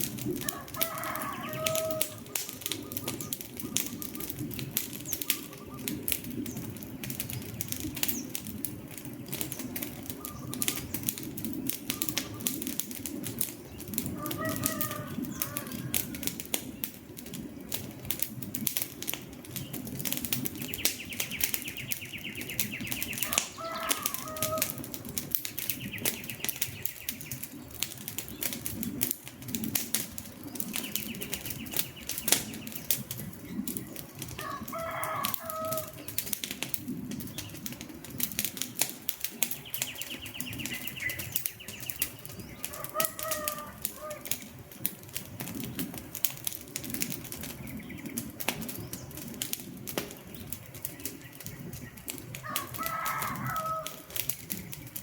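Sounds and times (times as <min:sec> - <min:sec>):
campfire crackling and popping: 0:00.0 - 0:55.0
low rumble of burning: 0:00.0 - 0:55.0
bird calls: 0:00.1 - 0:17.0, 0:19.2 - 0:38.2, 0:39.2 - 0:44.9, 0:47.0 - 0:49.4, 0:50.0 - 0:55.0.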